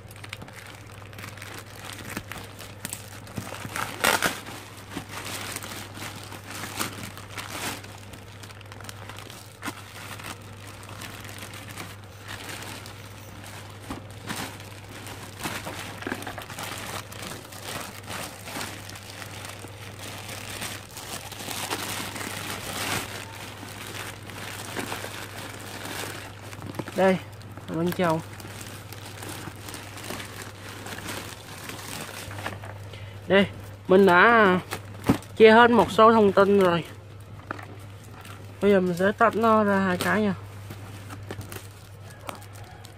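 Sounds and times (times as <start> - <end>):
plastic bag crinkling: 0.0 - 42.9.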